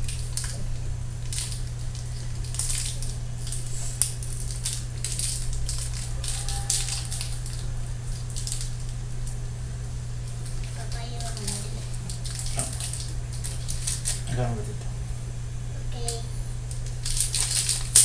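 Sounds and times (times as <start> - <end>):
wrapper crinkling and tearing: 0.0 - 0.6, 1.2 - 9.4, 10.3 - 14.5, 16.6 - 18.0
steady low hum: 0.0 - 18.0.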